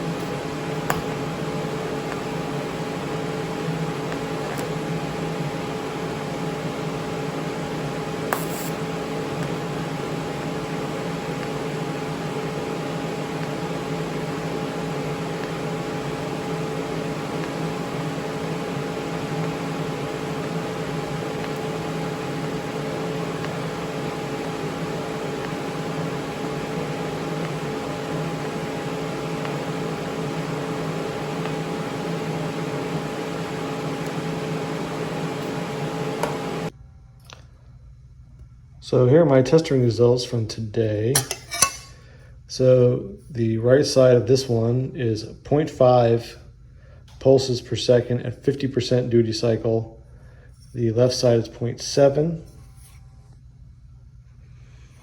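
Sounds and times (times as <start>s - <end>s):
machine hum with tones: 0.0s - 55.0s.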